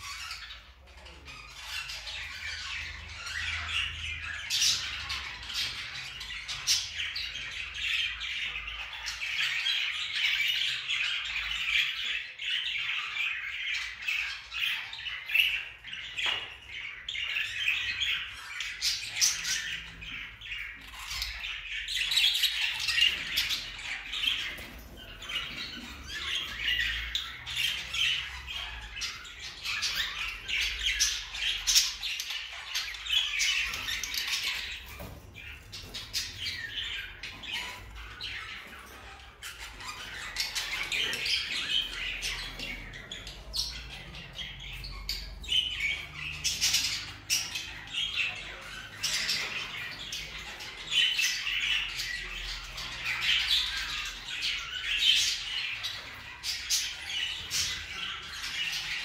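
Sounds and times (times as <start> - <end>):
budgerigars chattering and squawking: 0.0 - 59.0.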